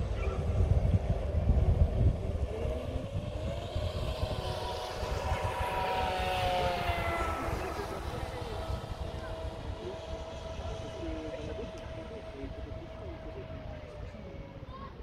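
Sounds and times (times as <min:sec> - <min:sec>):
model boat motor whining: 0:00.0 - 0:15.0.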